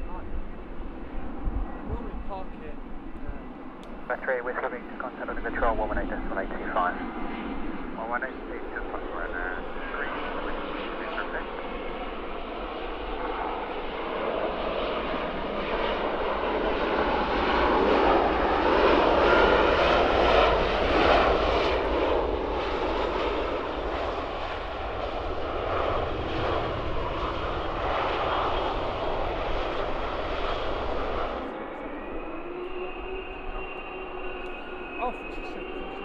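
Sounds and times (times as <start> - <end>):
jet engines passing: 0.0 - 36.0.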